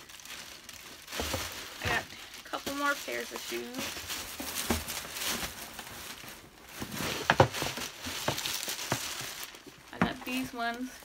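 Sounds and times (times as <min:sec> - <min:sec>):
shopping bag rustling: 0:00.0 - 0:10.9.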